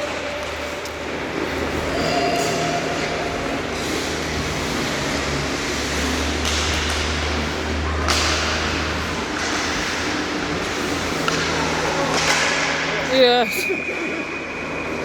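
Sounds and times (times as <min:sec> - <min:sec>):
low arena hum: 0:00.0 - 0:15.0
skates scraping ice: 0:00.0 - 0:15.0.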